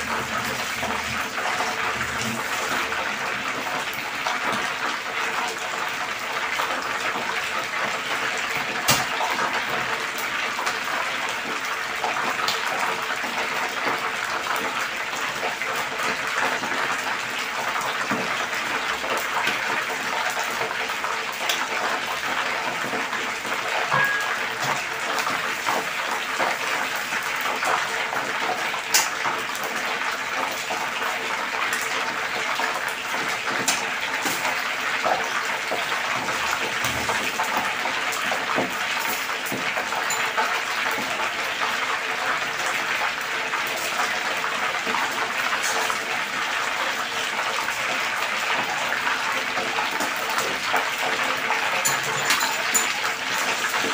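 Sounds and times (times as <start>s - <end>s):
fish deep-frying in oil: 0.0s - 53.9s.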